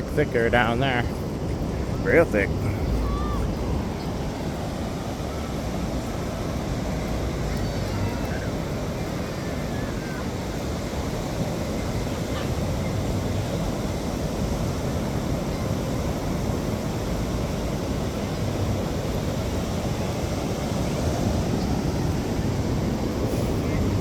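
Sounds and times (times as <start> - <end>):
ocean surf: 0.0 - 24.0
wind rumbling on microphone: 0.0 - 24.0.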